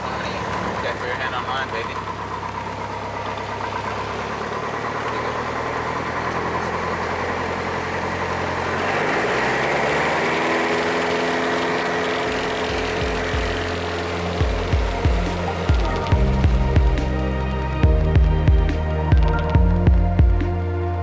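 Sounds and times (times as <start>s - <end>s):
light aircraft engine and propeller: 0.0s - 21.0s.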